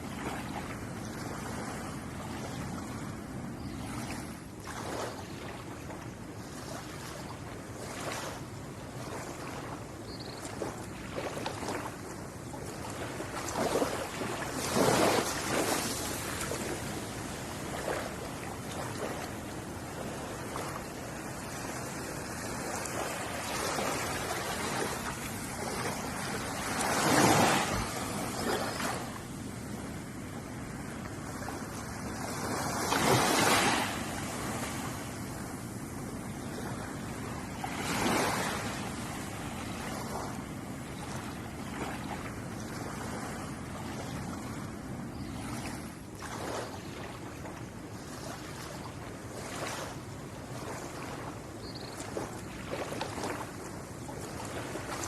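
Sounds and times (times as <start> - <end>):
steady wash of surf: 0.0 - 51.4, 52.1 - 55.0
waves breaking: 0.0 - 55.0.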